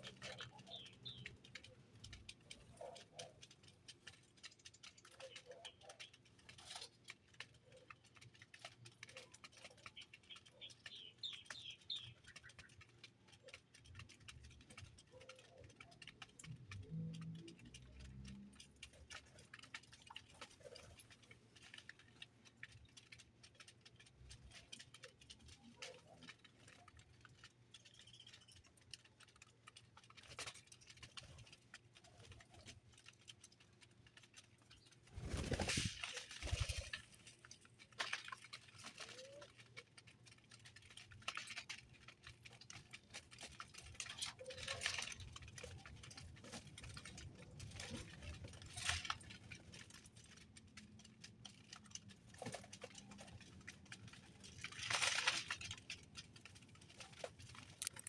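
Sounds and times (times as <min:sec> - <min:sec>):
birds tapping and pattering: 0:00.0 - 0:58.0.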